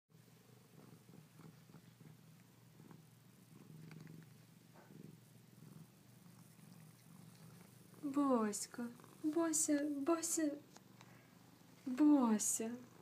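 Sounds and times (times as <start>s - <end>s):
cat purring: 0.2s - 13.0s.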